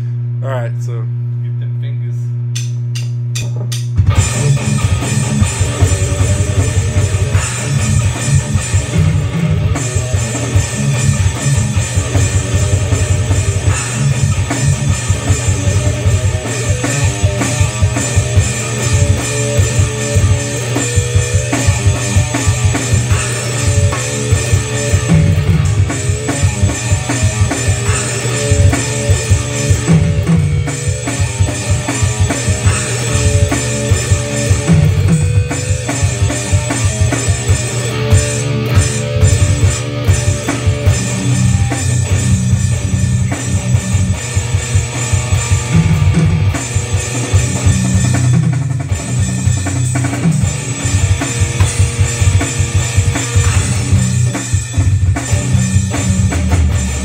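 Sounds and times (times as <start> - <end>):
drum beat: 2.5 - 57.0
electric guitar rock riff: 3.4 - 57.0.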